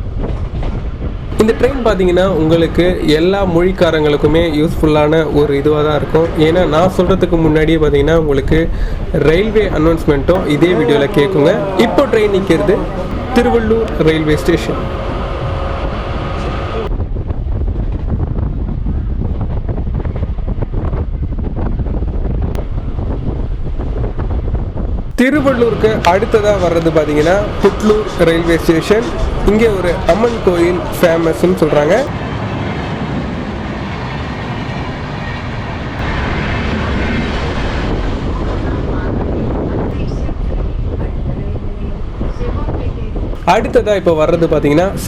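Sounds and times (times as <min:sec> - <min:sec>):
moving train rumble: 0:00.0 - 0:45.0
wind buffeting microphone: 0:00.0 - 0:45.0.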